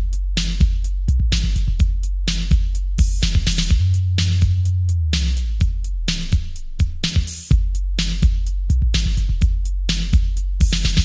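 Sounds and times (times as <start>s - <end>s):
electronic bass music: 0.0s - 11.0s.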